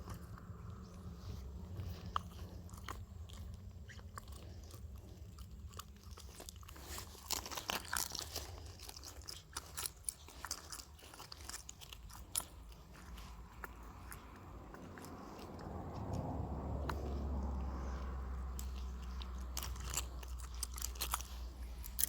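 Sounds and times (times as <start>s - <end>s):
crunching and clicking handling: 0.0s - 22.0s
low steady rumble: 0.0s - 22.0s.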